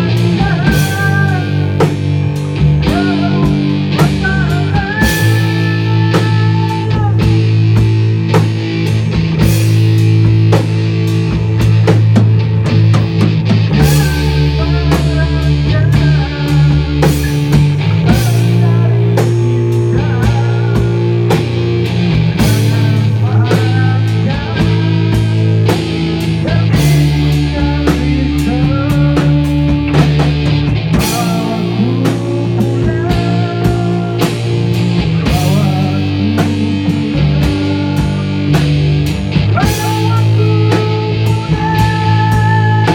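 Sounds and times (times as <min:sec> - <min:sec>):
drum kit with cymbal crashes: 0:00.0 - 0:42.9
electric bass: 0:00.0 - 0:42.9
electric guitar: 0:00.0 - 0:42.9.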